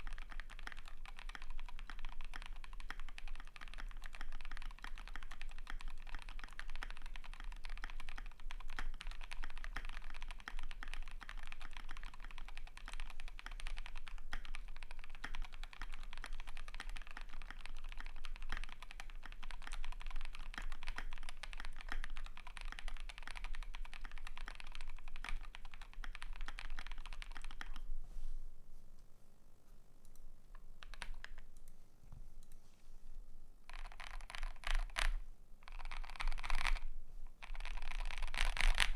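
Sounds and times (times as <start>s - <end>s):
mechanical keyboard typing: 0.0s - 27.8s, 30.8s - 31.7s, 33.7s - 38.9s.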